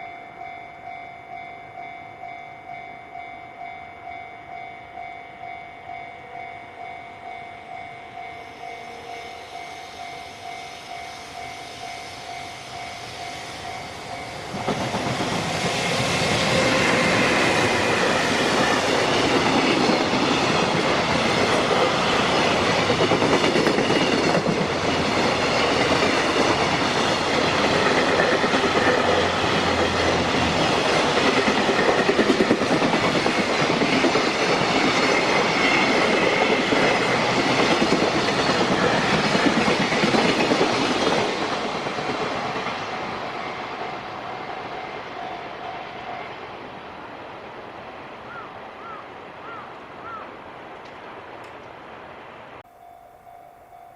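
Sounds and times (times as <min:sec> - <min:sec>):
level-crossing warning bell: 0:00.0 - 0:46.7, 0:52.6 - 0:53.9
freight train passing: 0:00.0 - 0:53.9.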